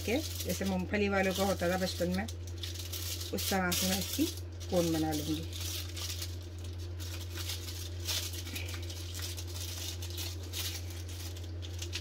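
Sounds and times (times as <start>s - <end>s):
aluminium foil crinkling: 0.0s - 12.0s
steady low hum: 0.0s - 12.0s.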